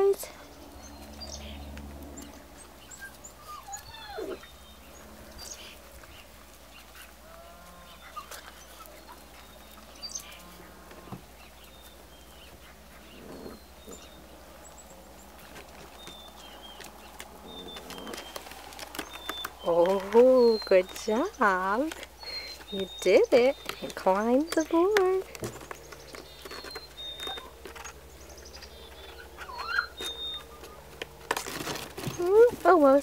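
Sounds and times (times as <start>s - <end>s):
faint birds chirping: 0.0s - 33.0s
puppies whining and yipping: 0.6s - 32.7s.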